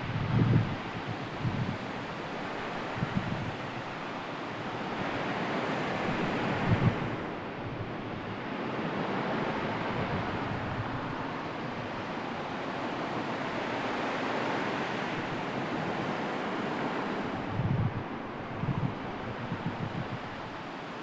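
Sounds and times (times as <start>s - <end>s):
sea waves washing in: 0.0s - 21.0s.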